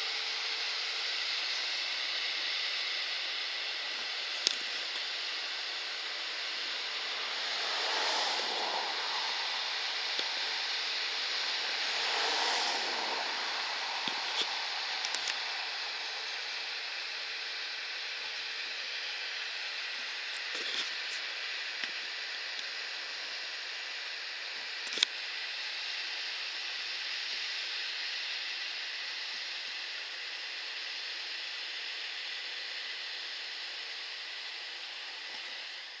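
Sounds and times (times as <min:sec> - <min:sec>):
combine harvester working: 0:00.0 - 0:36.0.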